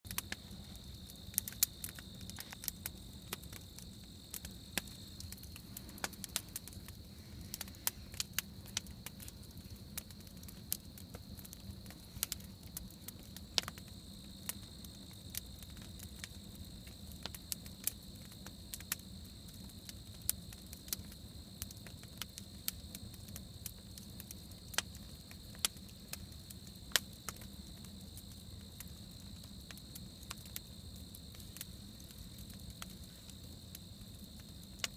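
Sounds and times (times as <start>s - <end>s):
campfire crackling and popping: 0.1s - 34.9s
crickets chirring: 0.1s - 34.9s.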